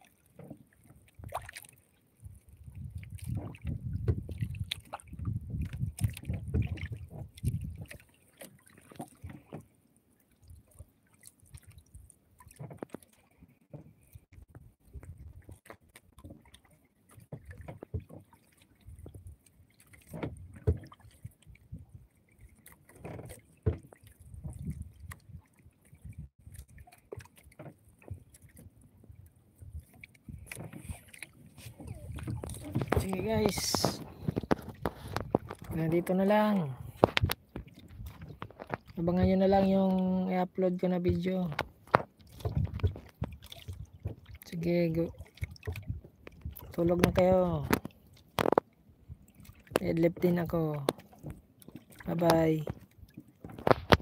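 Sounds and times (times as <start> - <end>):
water lapping against a boat hull: 0.0 - 54.0.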